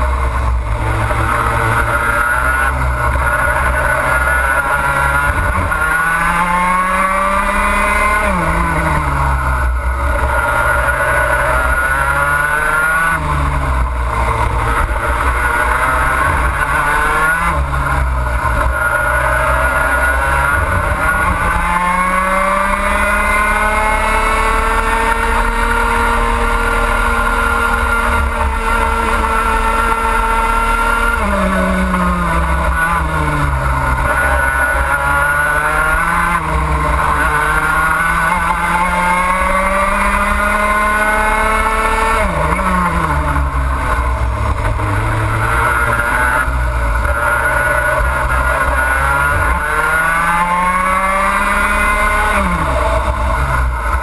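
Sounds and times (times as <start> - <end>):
two-stroke kart engine racing: 0.0 - 54.0.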